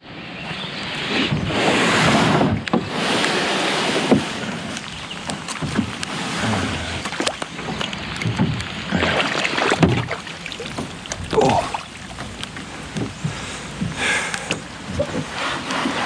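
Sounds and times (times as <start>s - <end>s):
paddle swishes and splashes: 0.5s - 16.0s.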